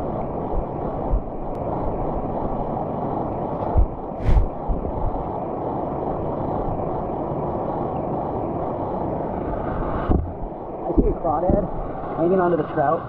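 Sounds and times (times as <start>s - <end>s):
muffled underwater stream rush: 0.0s - 13.0s.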